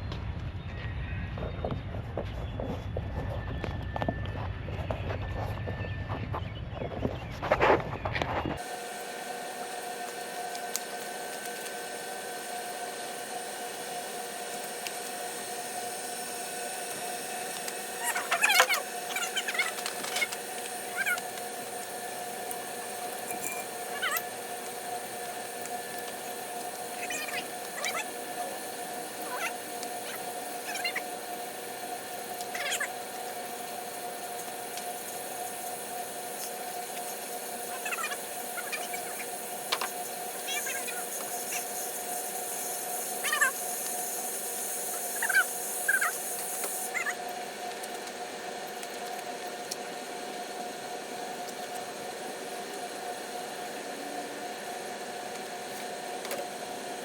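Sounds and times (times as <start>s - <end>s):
constant machine whine: 0.0s - 57.0s
machine hum and hiss: 0.0s - 57.0s.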